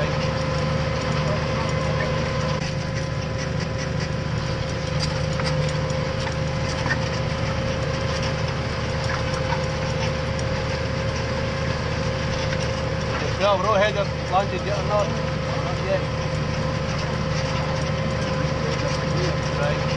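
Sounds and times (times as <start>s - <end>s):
constant whine: 0.0s - 19.9s
tractor engine droning: 0.0s - 19.9s.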